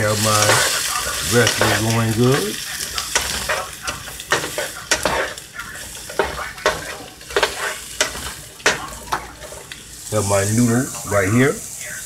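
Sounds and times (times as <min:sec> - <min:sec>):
vegetables sizzling in a frying pan: 0:00.0 - 0:12.0
utensil scraping a pan: 0:00.2 - 0:10.9.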